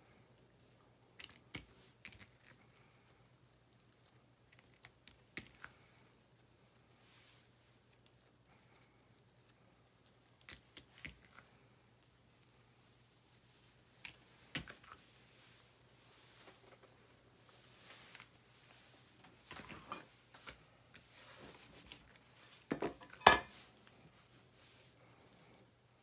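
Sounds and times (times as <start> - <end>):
hands handling bread dough: 0.0 - 26.0.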